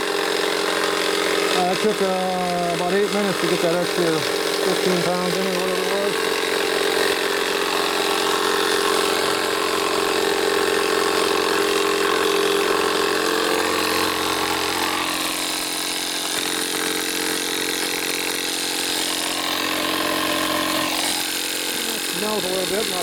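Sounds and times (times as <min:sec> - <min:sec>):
tire inflator compressor running: 0:00.0 - 0:23.0.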